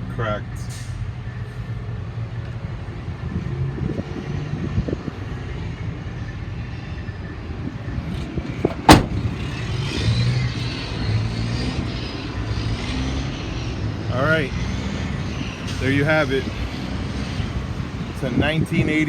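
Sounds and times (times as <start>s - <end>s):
road traffic rumble: 0.8s - 19.0s.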